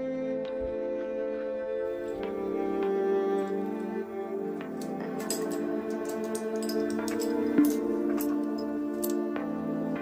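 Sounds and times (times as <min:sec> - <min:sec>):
instrumental music with long notes: 0:00.0 - 0:10.0.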